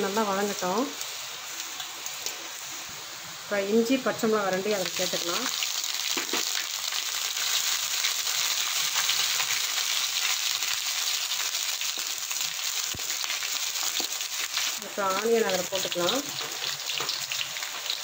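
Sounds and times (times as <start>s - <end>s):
garlic sizzling in hot oil: 0.0s - 18.0s.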